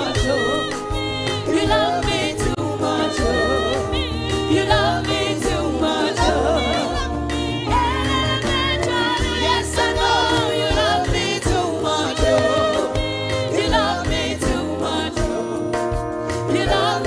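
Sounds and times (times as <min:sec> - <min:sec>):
band with bass and drums: 0:00.0 - 0:17.0
gospel choir singing: 0:00.0 - 0:17.0.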